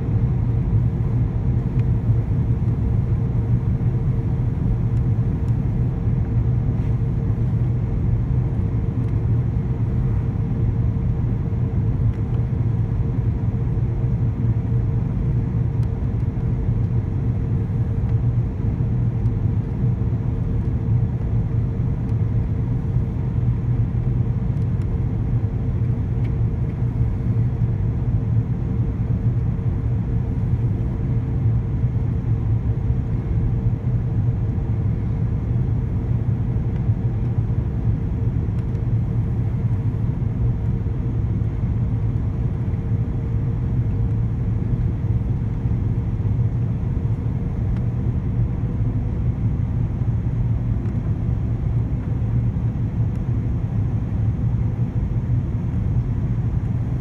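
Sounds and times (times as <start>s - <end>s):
steady cabin hum: 0.0s - 57.0s.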